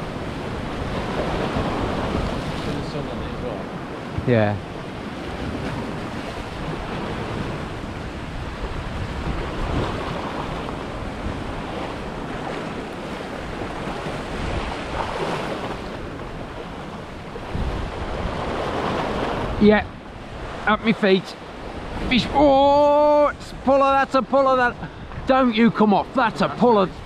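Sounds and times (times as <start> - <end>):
wind buffeting microphone: 0.0 - 20.7, 21.4 - 27.0
waves breaking over rocks: 0.0 - 27.0.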